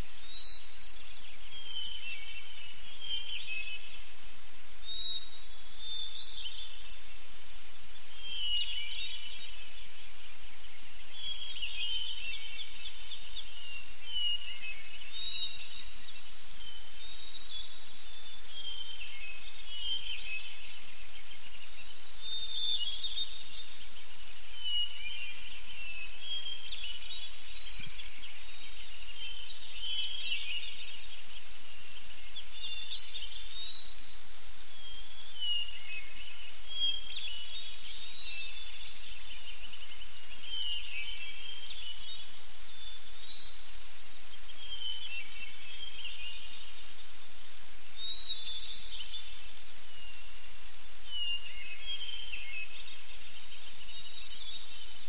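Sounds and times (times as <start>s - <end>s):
songbirds singing: 0.0s - 55.0s
steady high hiss: 0.0s - 55.0s.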